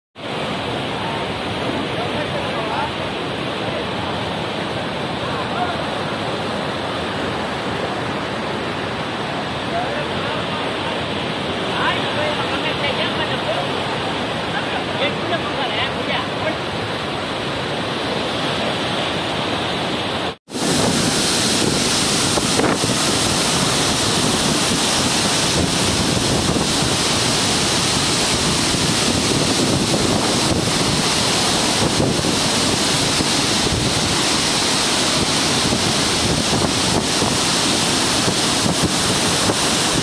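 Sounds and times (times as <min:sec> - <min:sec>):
water rushing through spillway: 0:00.2 - 0:40.0.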